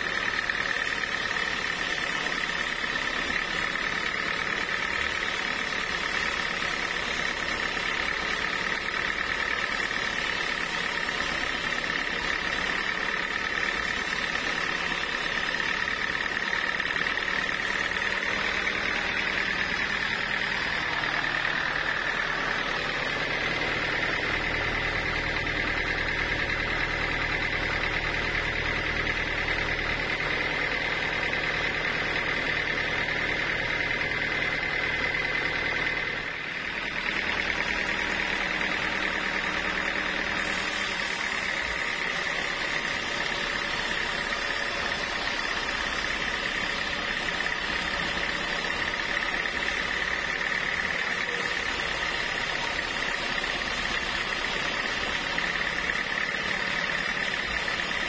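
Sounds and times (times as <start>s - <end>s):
hiss of saw cutting wood: 0.0s - 25.7s, 36.7s - 58.0s
band saw whine: 0.0s - 58.0s.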